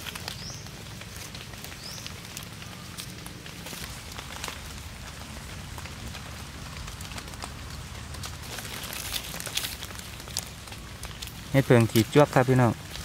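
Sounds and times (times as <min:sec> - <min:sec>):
dry leaves crackling and rustling: 0:00.0 - 0:13.0
steady hiss: 0:00.0 - 0:13.0.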